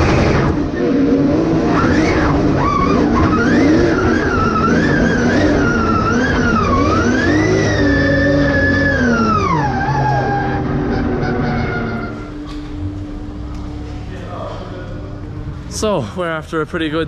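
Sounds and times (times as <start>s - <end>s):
tyres skidding: 0.0s - 14.1s
car engine revving: 0.0s - 15.8s.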